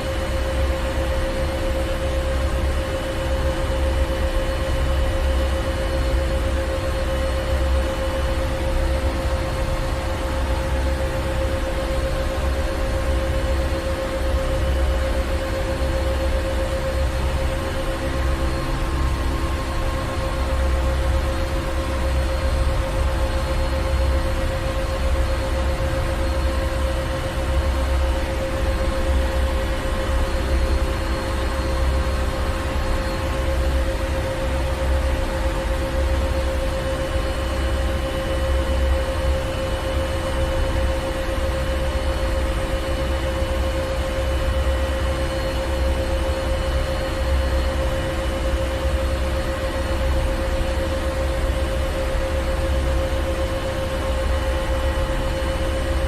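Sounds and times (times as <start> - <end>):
constant hum: 0.0 - 56.0.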